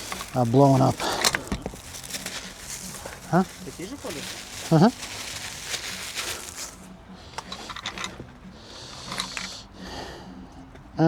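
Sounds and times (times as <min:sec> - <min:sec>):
light rubbing of parts: 0:00.0 - 0:09.8.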